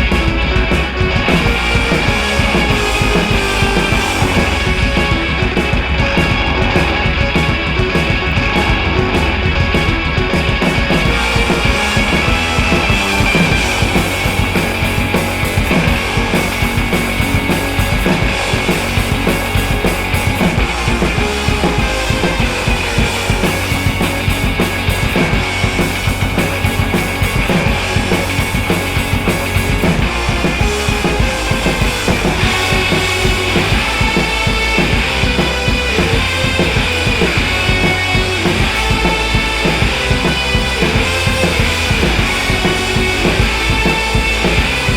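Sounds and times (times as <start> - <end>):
loud rock music: 0.0 - 44.9.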